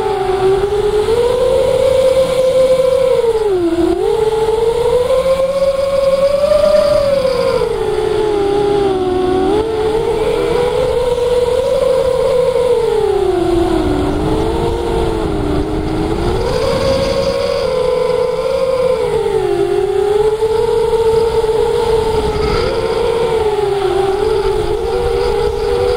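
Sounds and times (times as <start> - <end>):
model plane motor droning: 0.0 - 25.9
wind on microphone: 0.0 - 25.9.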